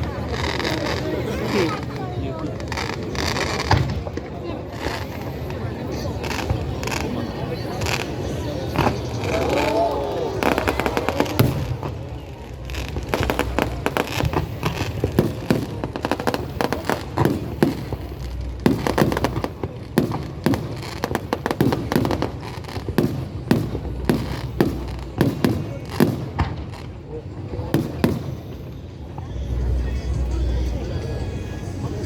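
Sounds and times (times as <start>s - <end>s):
fireworks bangs and crackles: 0.0s - 30.5s.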